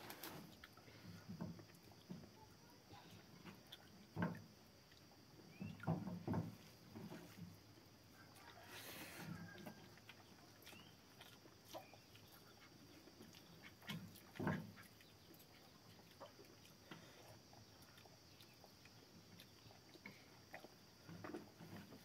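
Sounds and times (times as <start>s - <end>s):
chewing: 0.1s - 2.1s, 3.1s - 5.9s, 8.2s - 21.9s.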